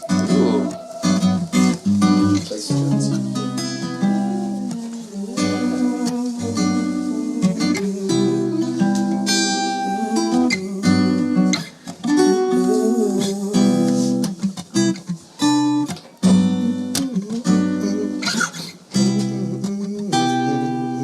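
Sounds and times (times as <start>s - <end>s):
acoustic guitar strummed chords: 0.0s - 21.0s.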